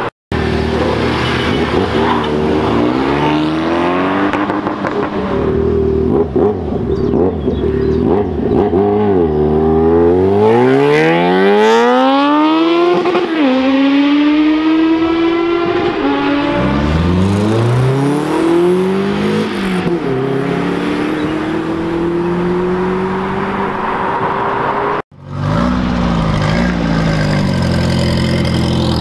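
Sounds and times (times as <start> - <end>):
vehicle engines passing: 0.0 - 29.0
motorcycle accelerating hard: 0.4 - 29.0.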